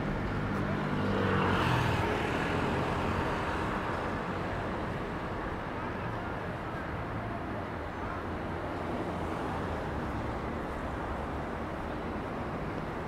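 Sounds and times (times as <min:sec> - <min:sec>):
steady traffic noise: 0:00.0 - 0:13.0.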